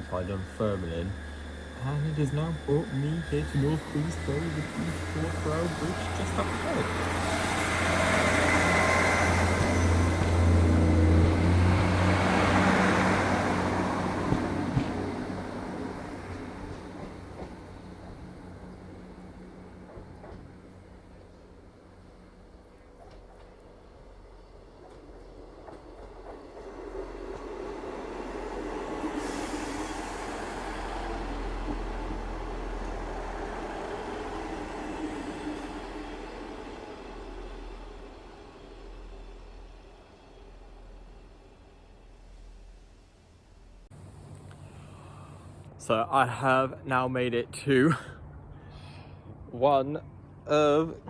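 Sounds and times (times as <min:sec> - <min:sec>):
train running: 0:00.0 - 0:46.4.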